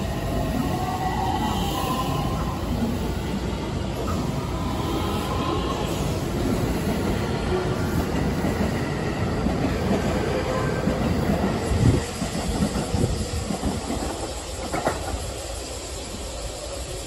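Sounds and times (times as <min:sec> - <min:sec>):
electric train rolling past: 0:00.0 - 0:17.0.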